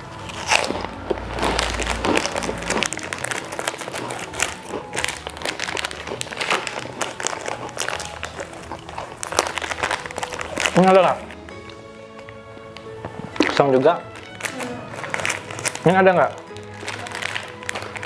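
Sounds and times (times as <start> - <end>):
plastic snack packet crinkling: 0.0 - 18.0.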